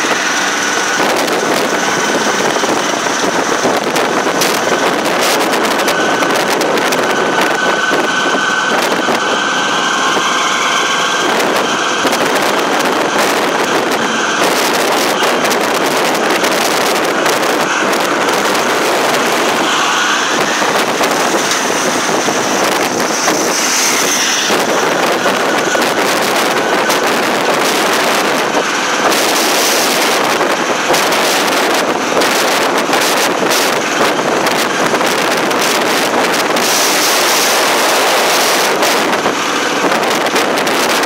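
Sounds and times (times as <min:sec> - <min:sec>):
auto-rickshaw engine running: 0:00.0 - 0:41.0
wind and road noise: 0:00.0 - 0:41.0.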